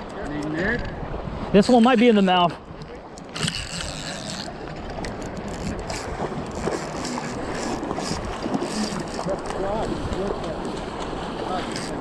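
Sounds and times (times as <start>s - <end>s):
wind on microphone: 0.6s - 12.0s
river water rushing: 1.0s - 12.0s.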